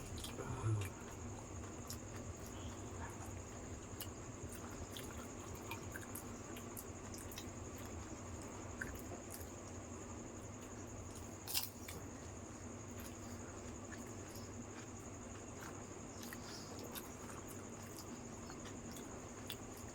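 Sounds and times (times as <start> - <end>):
crunchy food chewing: 0.0 - 19.9.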